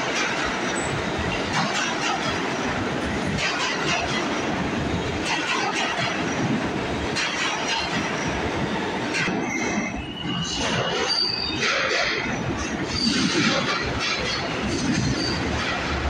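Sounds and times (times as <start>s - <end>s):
subway train wheels rumbling: 0.0s - 16.0s
wheels clacking over rail joints: 0.0s - 16.0s.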